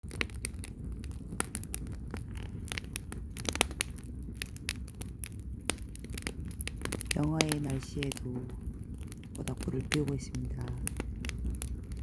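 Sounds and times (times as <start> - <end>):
bonfire crackling and popping: 0.0 - 12.0
low steady rumble: 0.0 - 12.0.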